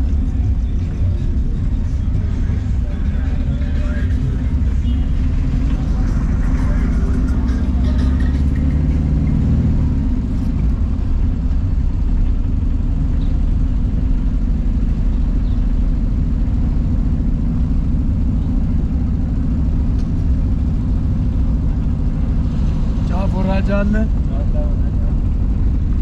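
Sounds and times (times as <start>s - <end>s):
vehicle engine low rumble: 0.0s - 26.0s.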